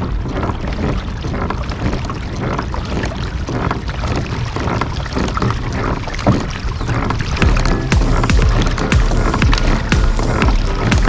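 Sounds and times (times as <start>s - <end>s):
water splashing against hull: 0.0s - 11.0s
wind rumbling on microphone: 0.0s - 11.0s.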